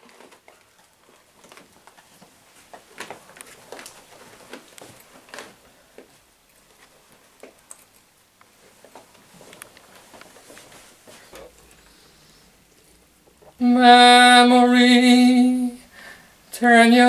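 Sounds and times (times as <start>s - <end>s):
faint rustles of people moving: 0.0s - 13.7s.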